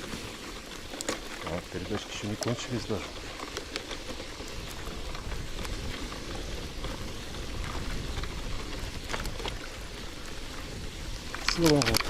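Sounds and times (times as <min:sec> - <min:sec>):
bicycle chain clicks and crunches: 0:00.0 - 0:12.0
bicycle tyres on wet dirt: 0:00.0 - 0:12.0.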